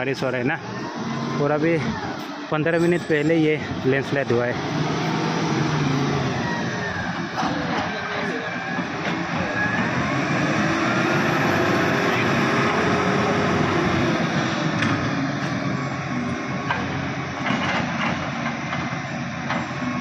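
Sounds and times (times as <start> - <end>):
heavy vehicle engine passing: 0.0 - 20.0
road noise: 0.0 - 20.0.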